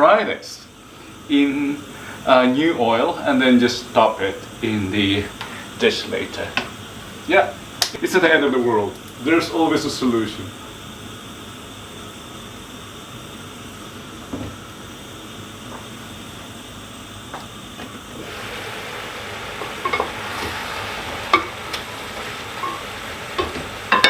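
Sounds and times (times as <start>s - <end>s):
oil sizzling in a frying pan: 0.8s - 24.0s.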